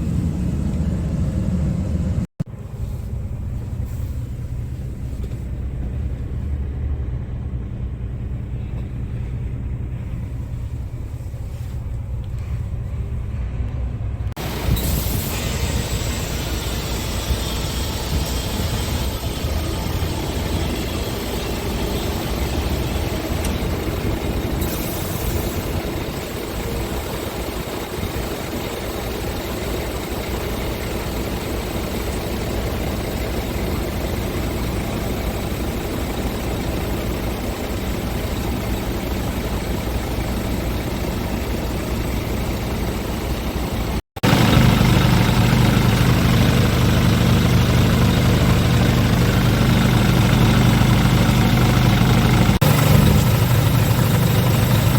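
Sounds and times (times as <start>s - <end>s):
diesel truck engine idling: 0.0s - 54.9s.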